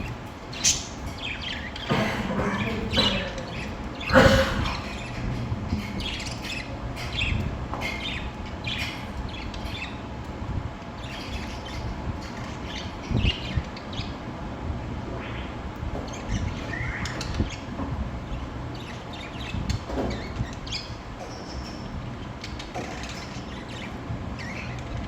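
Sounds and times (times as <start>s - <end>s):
budgerigars chirping: 0.0s - 10.2s, 11.0s - 14.3s, 15.1s - 25.0s.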